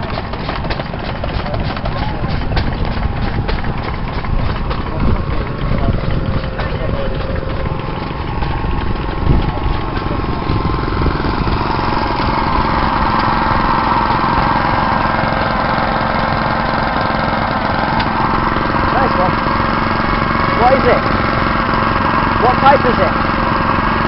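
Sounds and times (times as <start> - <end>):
stationary engine chugging: 0.0 - 24.0.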